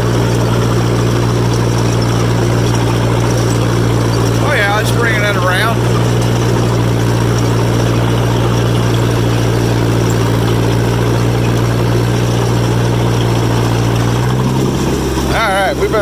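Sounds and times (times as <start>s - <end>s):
crawler tractor engine running: 0.0s - 16.0s.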